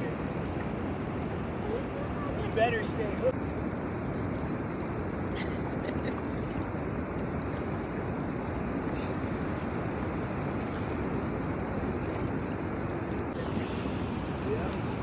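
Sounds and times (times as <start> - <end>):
moving water: 0.0 - 15.0
wind: 0.0 - 15.0.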